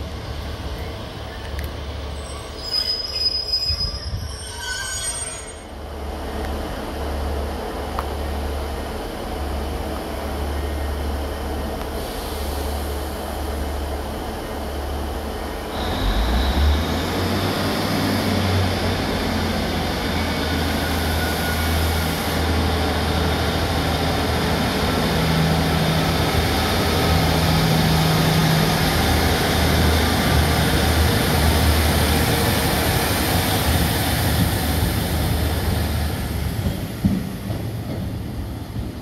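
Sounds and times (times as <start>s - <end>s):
diesel train engines working hard: 5.7s - 39.0s.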